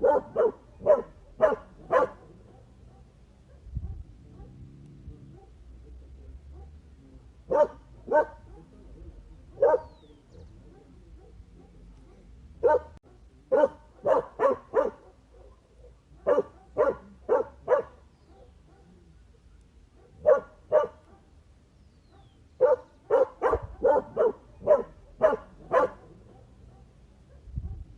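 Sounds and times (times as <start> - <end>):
dog barking: 0.0 - 5.7, 6.4 - 6.9, 7.5 - 8.9, 9.5 - 21.4, 22.1 - 27.9.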